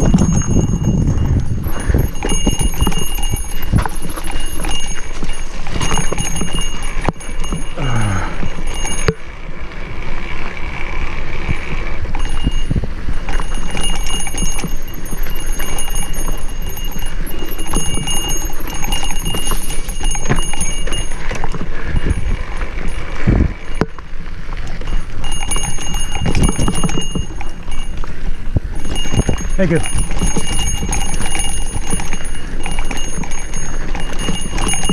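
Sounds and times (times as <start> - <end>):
mountain bike rattling: 0.0 - 34.9
wind buffeting microphone: 0.0 - 34.9.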